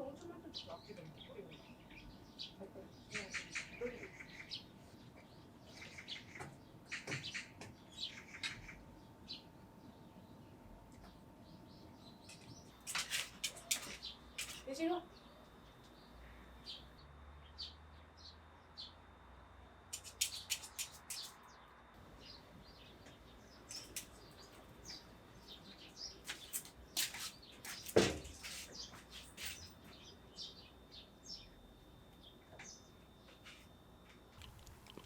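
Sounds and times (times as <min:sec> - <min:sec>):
small birds chirping: 0:00.0 - 0:19.0, 0:20.0 - 0:33.8.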